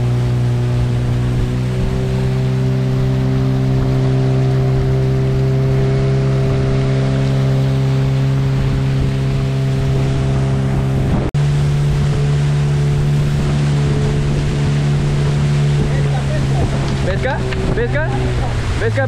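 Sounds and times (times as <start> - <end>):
outboard motor running: 0.0 - 19.0
water rushing along hull: 0.0 - 19.0
wind on microphone: 0.0 - 19.0.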